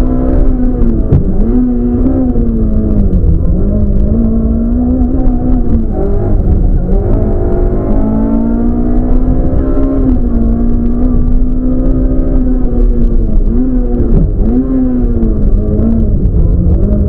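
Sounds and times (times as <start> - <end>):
car engine at high revs: 0.0 - 17.0
low road and drivetrain rumble: 0.0 - 17.0.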